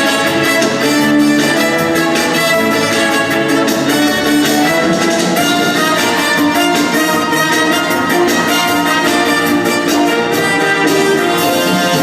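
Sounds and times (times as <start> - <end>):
orchestral music with brass and strings: 0.0 - 12.0.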